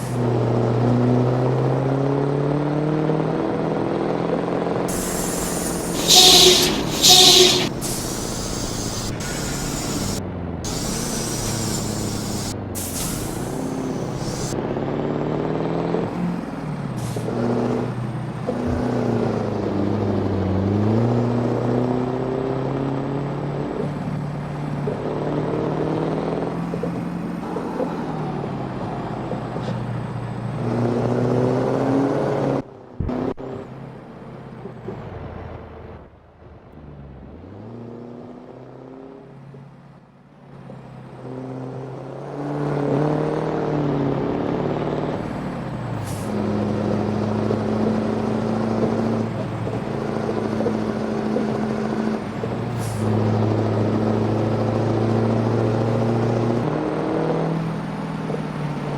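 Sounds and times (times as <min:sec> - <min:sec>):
truck engine through straight pipe: 0:00.0 - 0:58.9.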